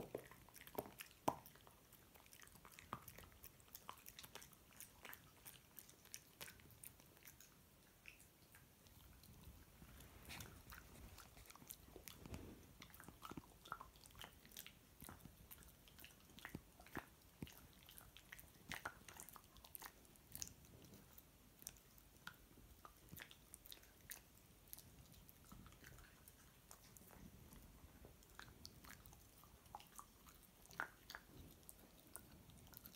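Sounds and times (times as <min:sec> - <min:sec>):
dog chewing crunchy food: 0:00.0 - 0:32.9.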